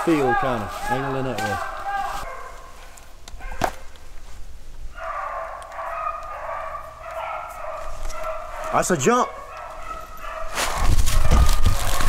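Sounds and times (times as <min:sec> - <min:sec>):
beagles baying: 0:00.0 - 0:04.0, 0:04.9 - 0:12.0.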